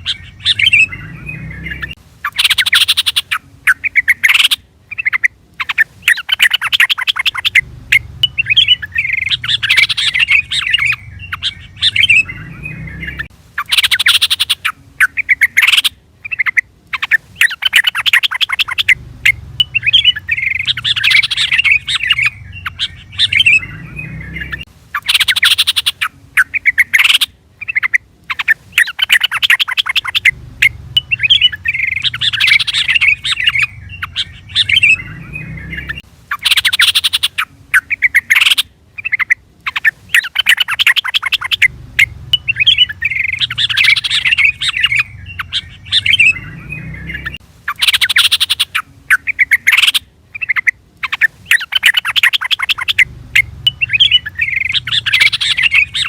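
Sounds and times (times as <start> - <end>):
bulbul rapid chattering call: 0.0 - 56.0.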